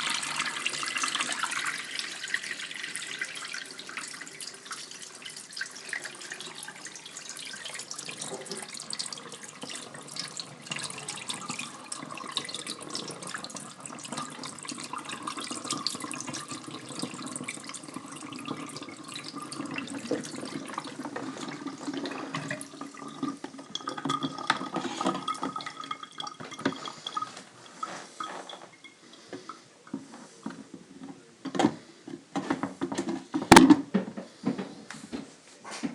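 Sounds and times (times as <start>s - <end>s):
water drips and splashes: 0.0s - 29.6s
water gurgling: 0.0s - 29.9s
water rushing through siphon: 0.0s - 29.9s.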